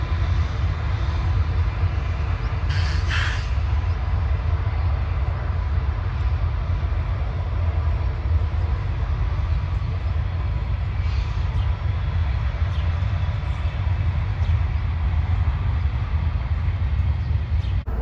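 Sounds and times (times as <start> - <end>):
distant locomotive rumbling: 0.0 - 18.0.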